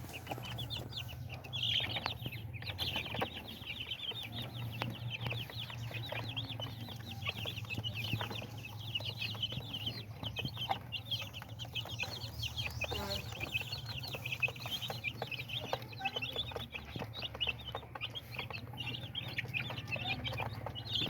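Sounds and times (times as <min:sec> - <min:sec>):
chickens peeping: 0:00.0 - 0:21.0.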